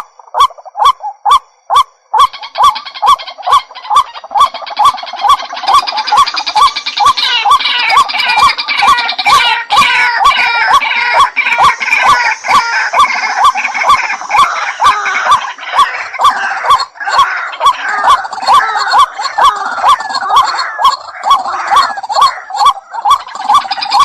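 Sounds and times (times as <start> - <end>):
chatter of higher bird notes: 2.3 - 24.0.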